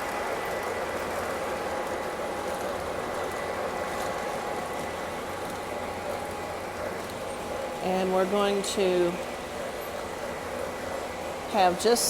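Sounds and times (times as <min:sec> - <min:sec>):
faint motor whine: 0:00.0 - 0:12.0
model trains running on track: 0:00.0 - 0:12.0.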